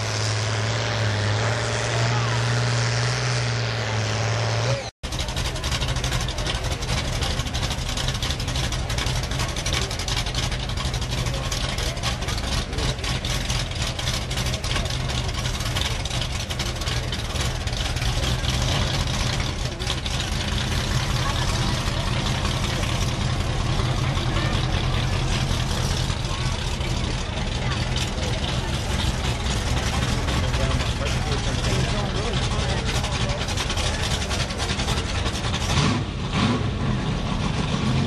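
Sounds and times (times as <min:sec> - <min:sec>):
loud engine with crackling exhaust: 0:00.0 - 0:38.0.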